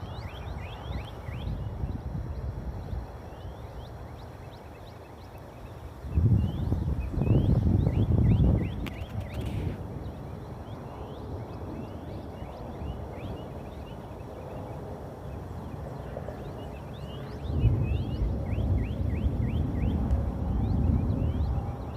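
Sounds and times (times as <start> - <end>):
low rumbling noise: 0.0 - 21.9.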